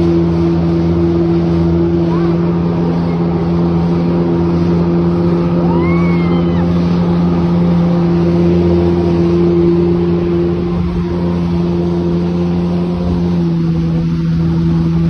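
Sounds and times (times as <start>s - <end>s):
jet ski engine drone: 0.0s - 15.0s
water and wind rushing: 0.0s - 15.0s.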